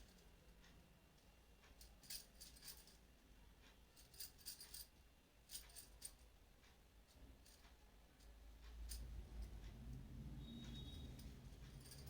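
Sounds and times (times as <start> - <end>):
light clinks and cloth rustles: 1.2 - 6.4, 7.0 - 12.0.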